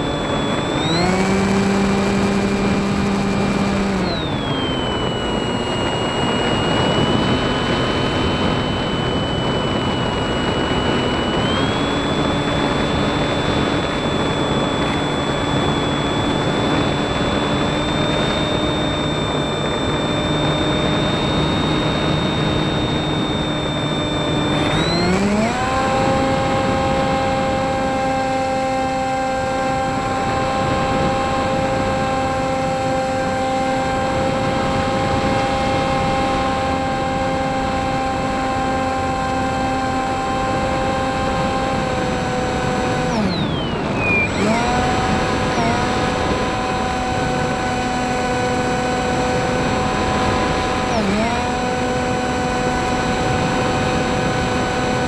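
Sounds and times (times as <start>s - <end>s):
airflow noise: 0.0s - 55.0s
model plane motor whining: 0.0s - 55.0s.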